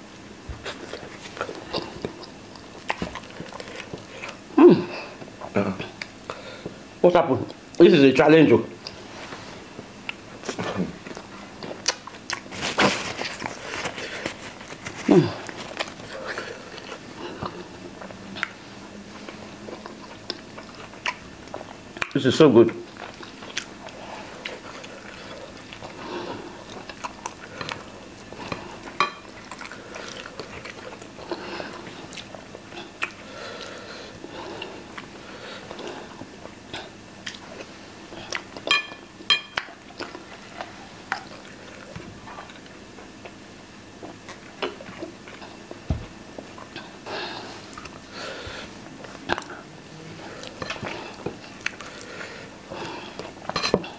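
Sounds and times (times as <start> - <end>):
people chewing food: 0.0 - 7.8, 8.8 - 53.9.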